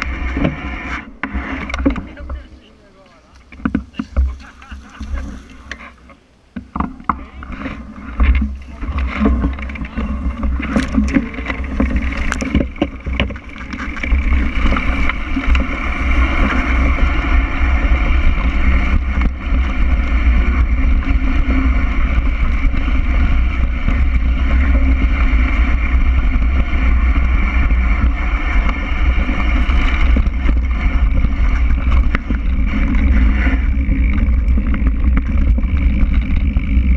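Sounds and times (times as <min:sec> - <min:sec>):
bike tyres riding through grass: 0:00.0 - 0:36.9
tyres on loose gravel: 0:00.0 - 0:36.9
wind buffeting microphone: 0:07.0 - 0:36.9.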